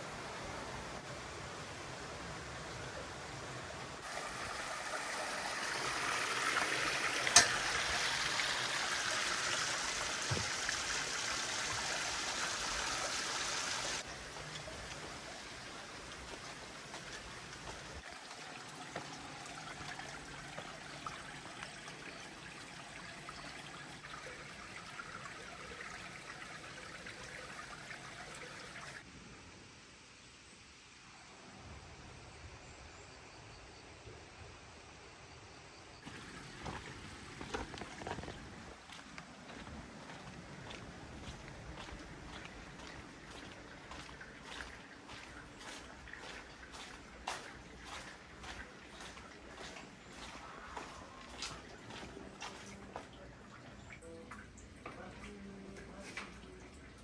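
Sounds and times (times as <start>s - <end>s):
stream water rushing: 0.0s - 29.1s, 36.0s - 56.6s.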